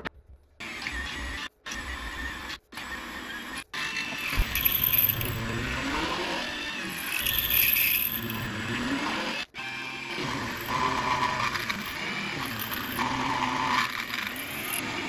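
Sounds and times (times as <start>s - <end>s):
cutter grinding through metal: 0.6s - 15.0s
spindle motor whining: 0.6s - 15.0s.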